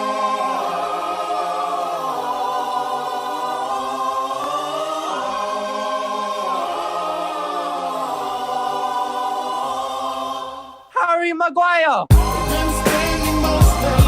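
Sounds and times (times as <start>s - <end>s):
choir singing held chords: 0.0s - 10.9s, 12.1s - 14.0s.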